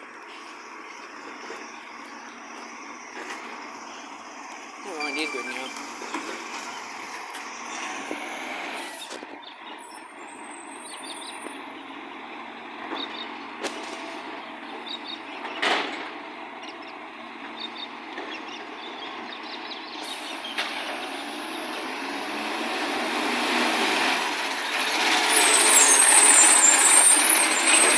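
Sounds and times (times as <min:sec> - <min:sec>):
garbage truck engine running: 0:00.0 - 0:27.9.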